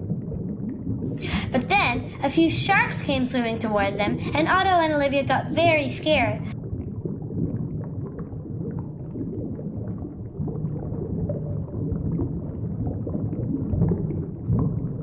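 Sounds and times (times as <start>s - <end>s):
underwater bubbling and gurgling: 0.0s - 15.0s.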